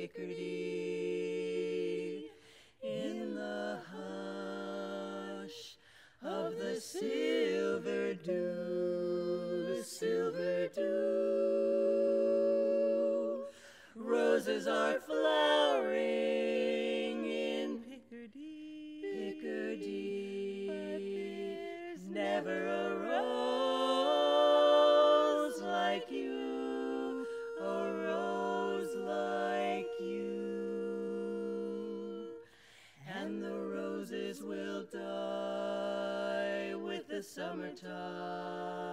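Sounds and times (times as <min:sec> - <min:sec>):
women singing a cappella harmony: 0:00.0 - 0:38.9.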